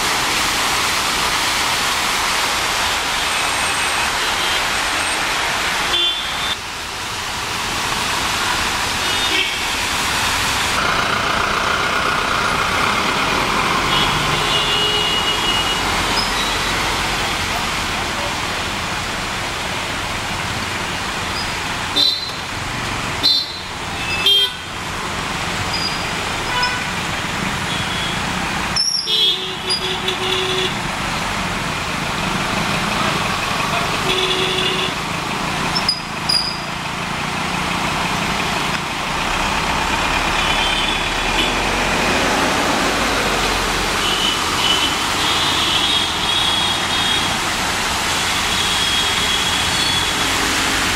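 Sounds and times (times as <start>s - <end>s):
engines and tyres through water: 0.0s - 50.9s.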